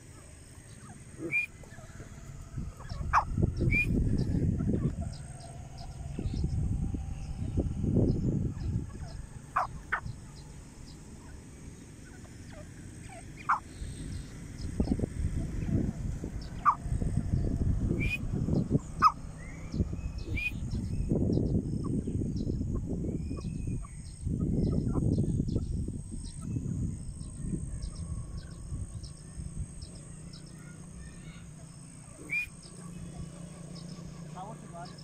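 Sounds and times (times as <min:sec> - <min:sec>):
birds calling: 0:00.0 - 0:35.0
low rumbling noise: 0:00.0 - 0:35.0.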